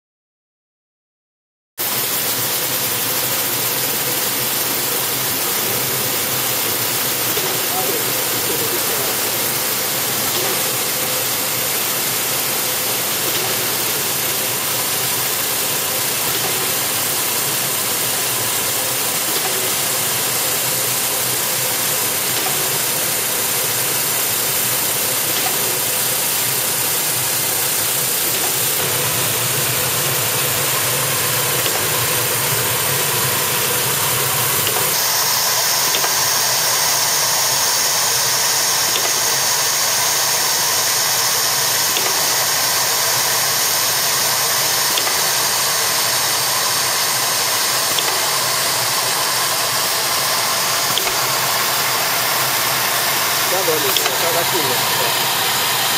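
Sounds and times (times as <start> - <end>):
hiss from rolls: 1.8 - 55.9
machine whirring: 1.8 - 55.9.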